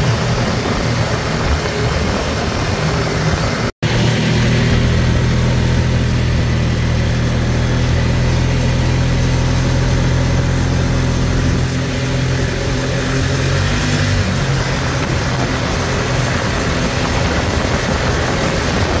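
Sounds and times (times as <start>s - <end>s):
tyre noise on dirt road: 0.0s - 19.0s
utility vehicle engine running: 0.0s - 19.0s
wind noise: 0.0s - 19.0s.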